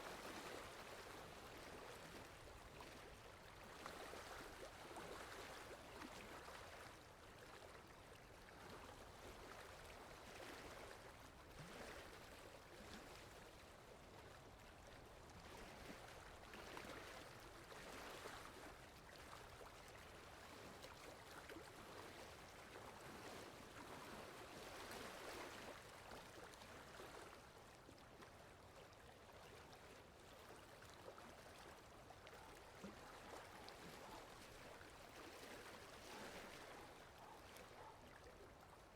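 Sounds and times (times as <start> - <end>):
faint water lapping: 0.0 - 38.9.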